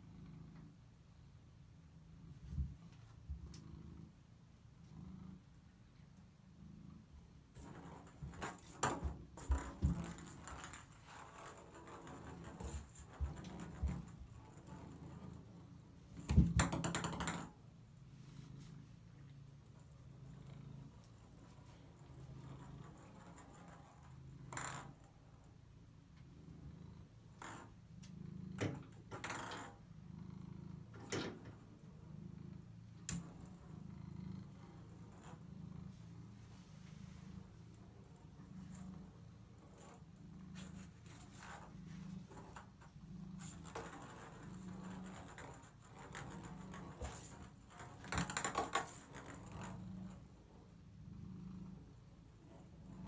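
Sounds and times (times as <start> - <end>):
cat purring: 0.0 - 53.0.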